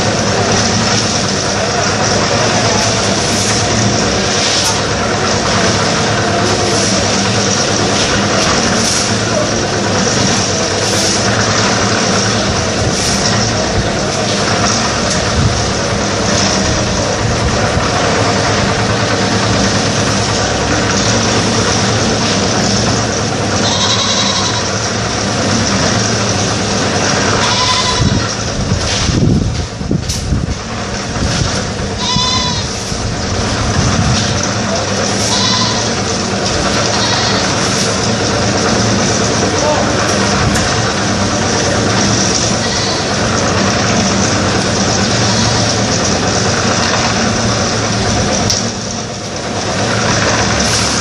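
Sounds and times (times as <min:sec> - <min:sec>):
concrete mixer engine running: 0:00.0 - 0:51.0.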